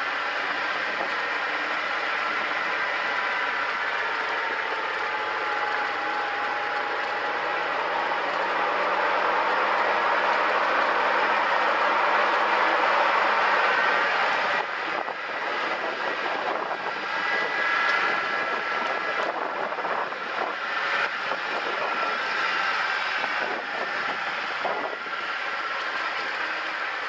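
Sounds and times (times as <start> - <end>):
faint steady whine: 0.0 - 27.0
tyre and road noise: 0.0 - 27.0.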